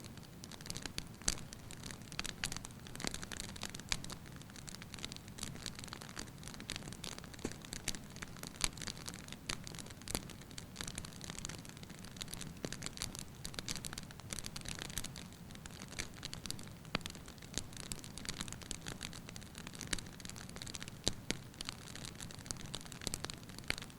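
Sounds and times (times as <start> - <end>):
logs crackling and popping: 0.0 - 23.9
low rumble of flames: 0.1 - 23.9.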